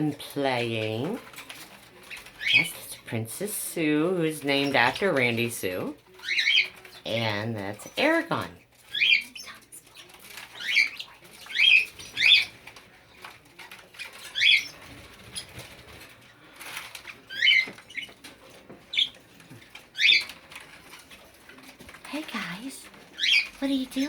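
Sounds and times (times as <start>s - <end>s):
faint clicks and scratches: 0.0s - 24.0s
budgerigars chirping: 1.2s - 3.0s, 4.3s - 21.8s, 22.4s - 24.0s.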